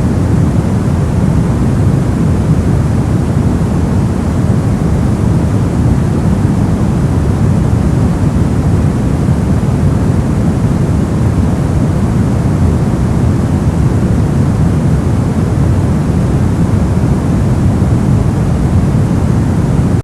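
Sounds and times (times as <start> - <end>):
steady white noise rush: 0.0 - 20.0.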